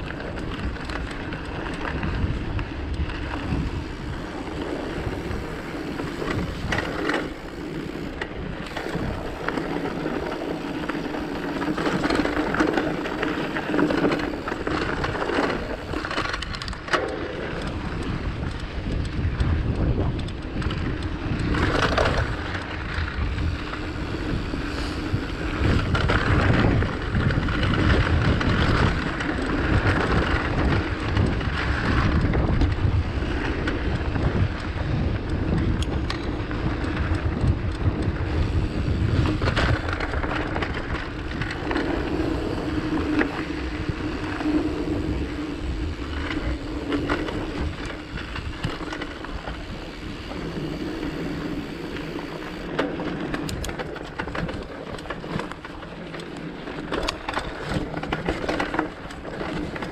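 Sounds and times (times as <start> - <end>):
bike clattering: 0.0 - 59.9
wind rumbling on microphone: 0.0 - 59.9.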